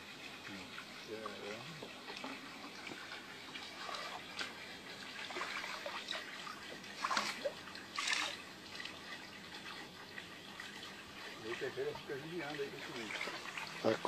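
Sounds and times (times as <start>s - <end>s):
water splashes: 0.0s - 14.0s
water trickling and lapping: 0.0s - 14.0s.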